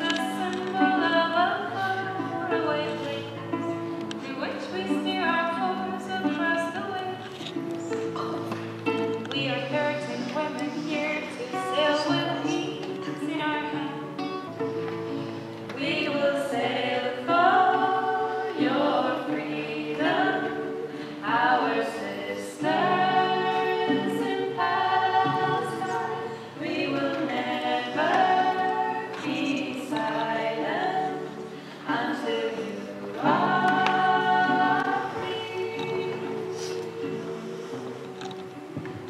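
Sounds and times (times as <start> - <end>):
women singing together: 0.0 - 14.2, 15.7 - 38.2
acoustic guitar: 0.0 - 39.0.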